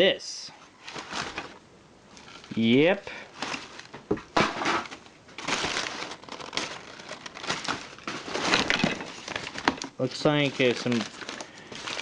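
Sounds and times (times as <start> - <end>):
crumpled newspaper rustling: 0.8 - 1.6, 2.2 - 12.0.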